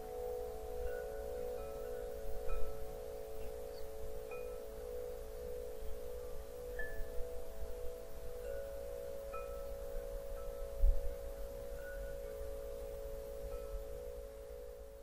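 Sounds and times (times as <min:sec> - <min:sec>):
soft chime-like music: 0:00.0 - 0:15.0.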